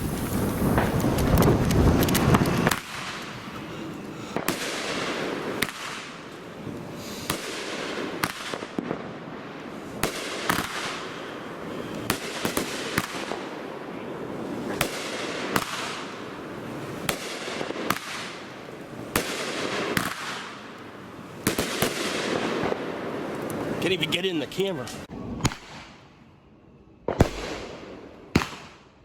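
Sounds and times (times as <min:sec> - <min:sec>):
firework reports with hiss: 0:00.0 - 0:26.1.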